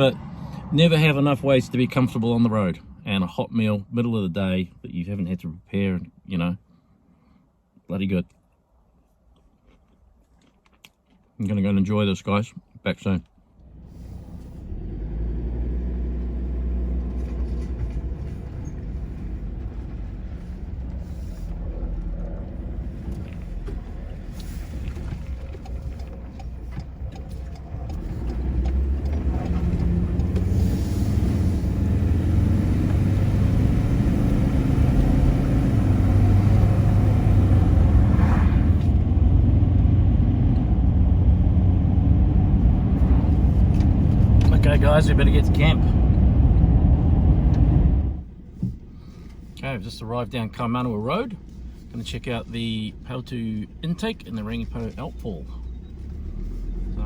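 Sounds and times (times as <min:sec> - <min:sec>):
pickup truck driving on road: 0:00.0 - 0:03.1, 0:13.6 - 0:57.0.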